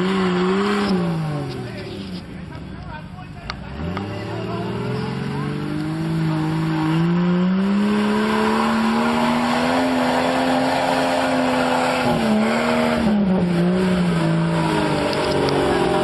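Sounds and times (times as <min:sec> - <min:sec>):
vehicle engine under load: 0:00.0 - 0:16.0.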